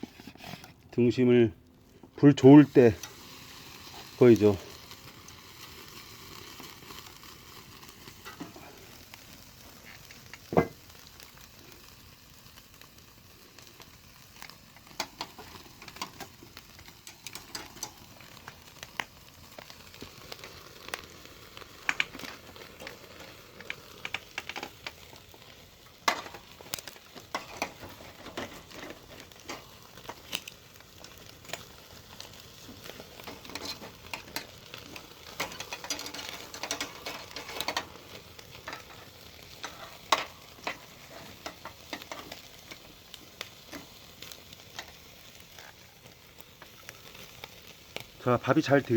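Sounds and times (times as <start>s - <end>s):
firewood popping and crackling: 0.0s - 48.9s
meat sizzling on a grill: 0.0s - 48.9s.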